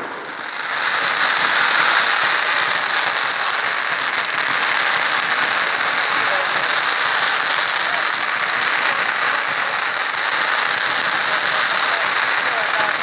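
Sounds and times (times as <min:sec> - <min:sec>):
fireworks crackling and hissing: 0:00.0 - 0:13.0.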